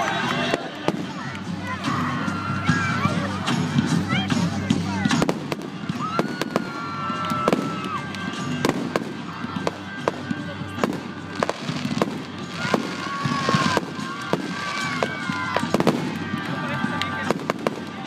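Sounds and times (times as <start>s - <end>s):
fireworks crackling: 0.0s - 2.0s, 4.5s - 18.0s.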